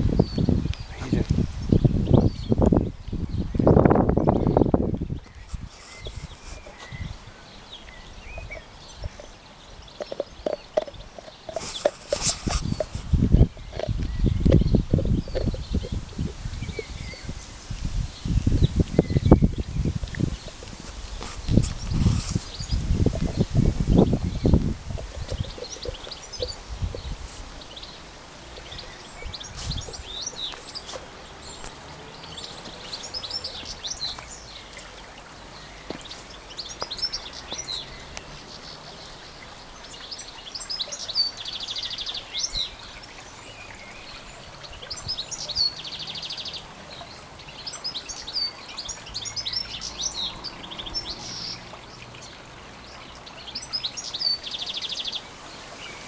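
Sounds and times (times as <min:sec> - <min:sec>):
shallow stream flowing: 0:00.0 - 0:56.0
songbirds singing and chirping: 0:00.0 - 0:56.0.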